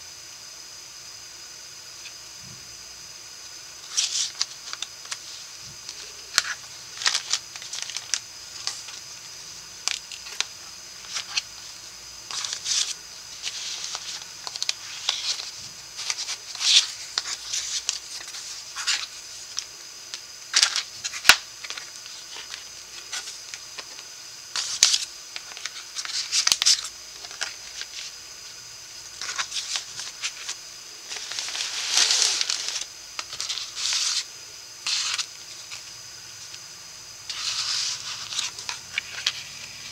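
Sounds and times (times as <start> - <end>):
paper rustling and sliding: 3.8 - 9.1, 9.8 - 19.7, 20.5 - 28.1, 29.1 - 36.6, 37.3 - 39.9.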